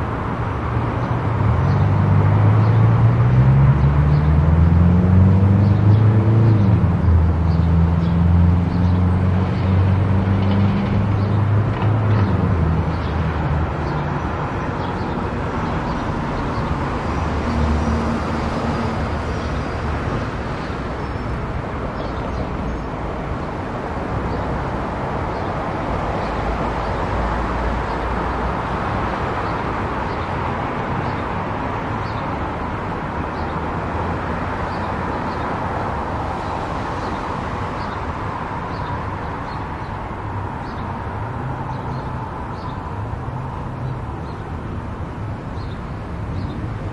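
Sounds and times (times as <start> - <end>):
car road and engine noise: 0.0 - 46.9.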